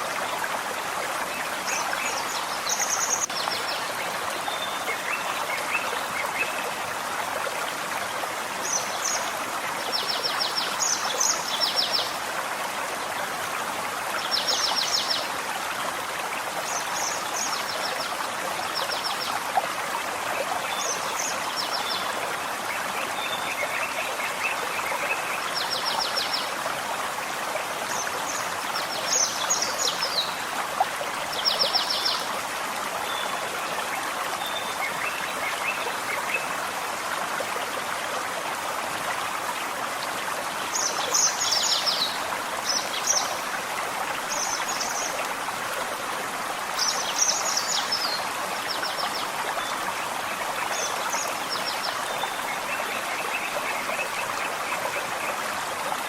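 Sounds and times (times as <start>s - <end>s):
forest stream running: 0.0s - 56.0s.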